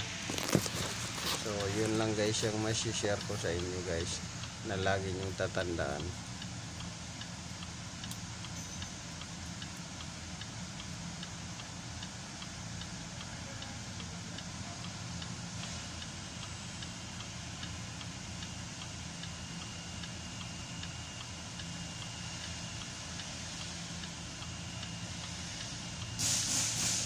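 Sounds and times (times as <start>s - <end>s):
light regular engine ticking: 0.0s - 27.0s.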